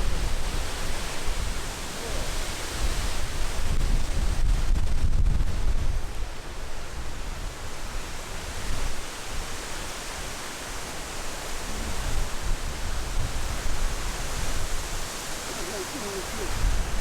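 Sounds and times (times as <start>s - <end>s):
strong wind through trees: 0.0s - 17.0s
wind buffeting microphone: 0.0s - 17.0s.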